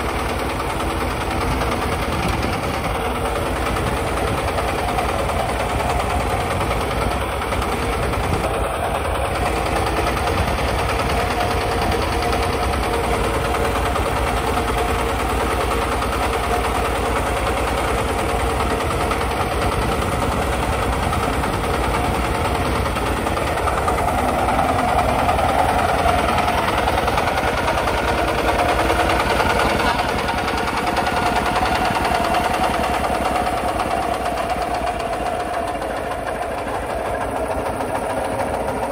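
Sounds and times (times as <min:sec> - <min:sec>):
diesel tractor engine chugging: 0:00.0 - 0:38.9.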